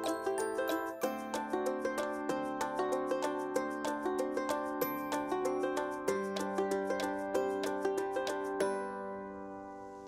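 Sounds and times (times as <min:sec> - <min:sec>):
light plucked-string tune: 0:00.0 - 0:09.7.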